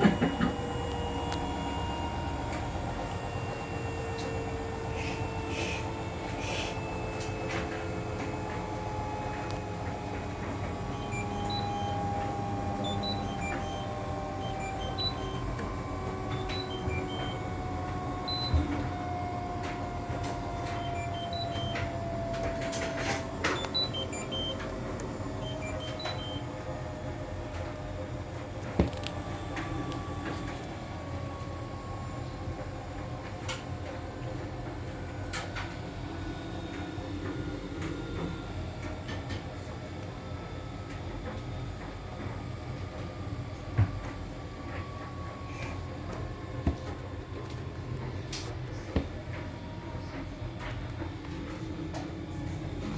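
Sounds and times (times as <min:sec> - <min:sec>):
washing machine hum and whine: 0:00.0 - 0:52.9.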